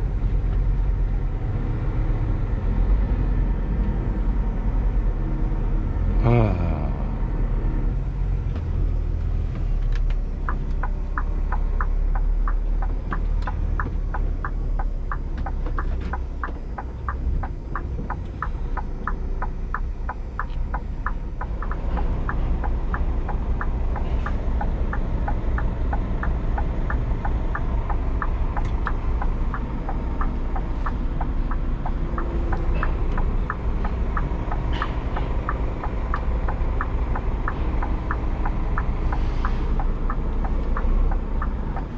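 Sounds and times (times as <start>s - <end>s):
diesel truck engine rumbling: 0.0s - 41.9s
turn indicator ticking: 7.8s - 41.9s.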